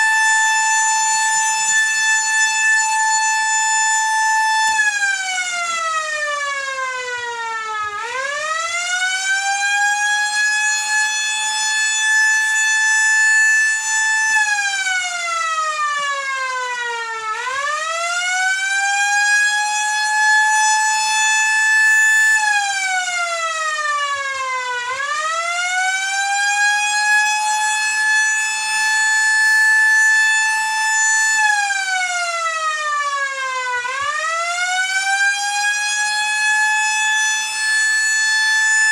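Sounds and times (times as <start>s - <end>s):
warning siren wailing: 0.0s - 38.9s.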